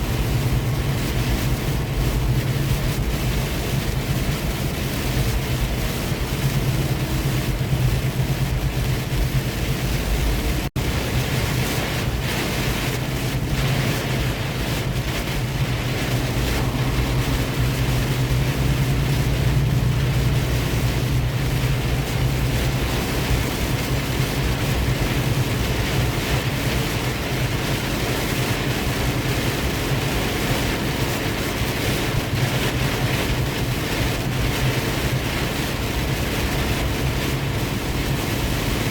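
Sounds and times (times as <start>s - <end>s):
road and wind noise: 0.0s - 38.9s
truck engine drone: 0.0s - 38.9s.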